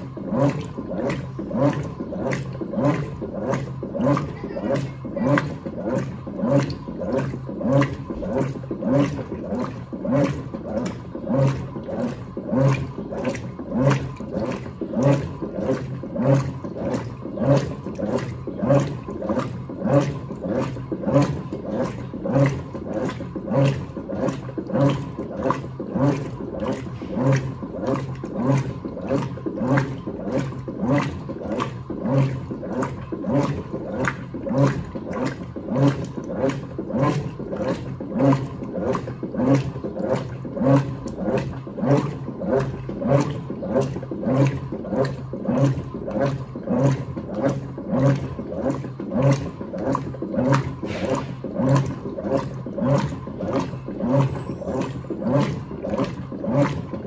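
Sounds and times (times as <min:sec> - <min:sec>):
washing machine motor whine: 0:00.0 - 0:57.0
water churning: 0:00.0 - 0:57.0.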